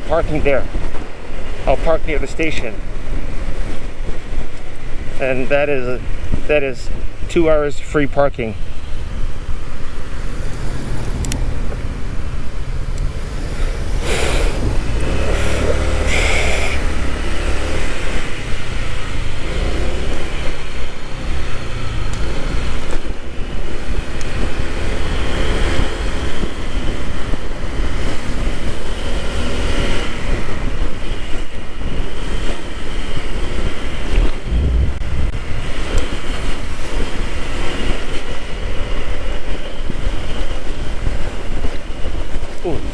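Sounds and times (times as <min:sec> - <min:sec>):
road and wind noise: 0:00.0 - 0:42.9.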